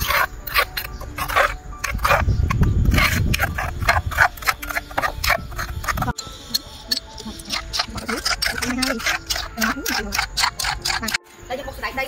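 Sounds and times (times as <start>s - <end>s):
spoon scraping in stone mortar: 0.0s - 11.2s.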